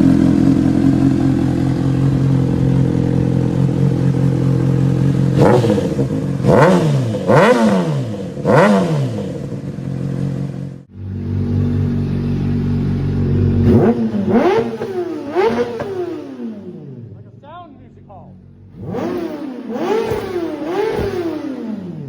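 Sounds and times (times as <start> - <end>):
motorcycle engine idling: 0.0 - 22.0
motorcycle engine revving: 0.0 - 22.0.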